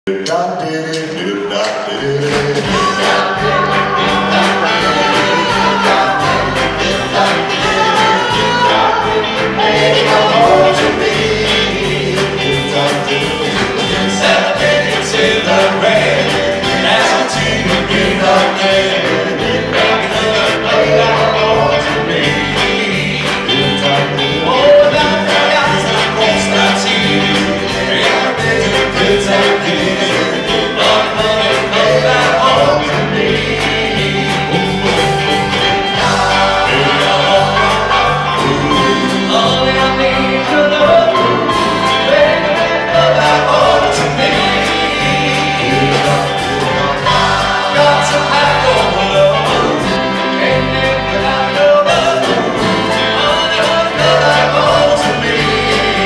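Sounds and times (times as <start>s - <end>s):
band playing: 0.1s - 56.0s
male vocal group singing in harmony: 0.1s - 56.0s.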